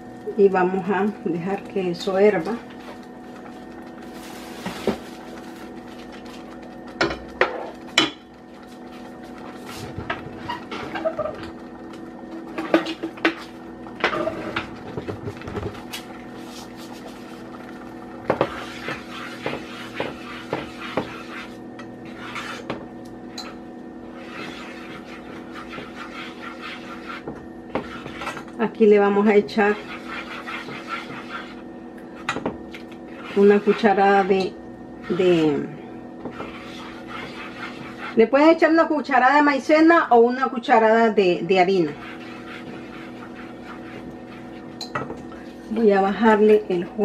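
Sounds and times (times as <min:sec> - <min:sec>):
steady hum: 0:00.0 - 0:47.0
spoon stirring in a saucepan: 0:00.2 - 0:38.9, 0:41.2 - 0:47.0.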